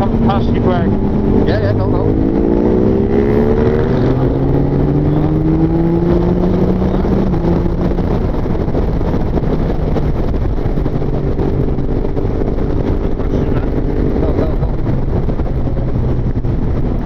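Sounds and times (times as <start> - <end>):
heavy wind rush: 0.0 - 17.0
motorcycle engine running: 0.0 - 17.0.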